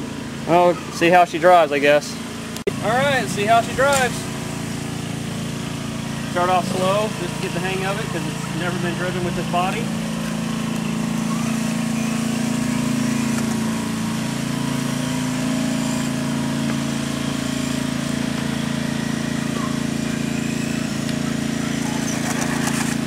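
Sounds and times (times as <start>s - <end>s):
low engine-like hum: 0.0s - 23.0s
electric motor whine: 2.6s - 23.0s.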